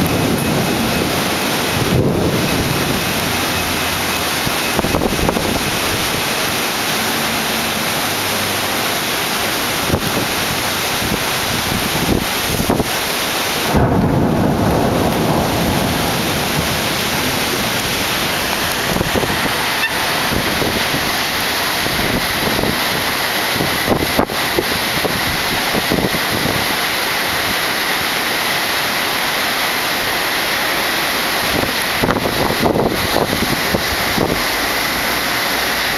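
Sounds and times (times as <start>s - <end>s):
heavy rain and wind hiss: 0.0s - 35.9s
thunder rumble: 0.0s - 35.9s.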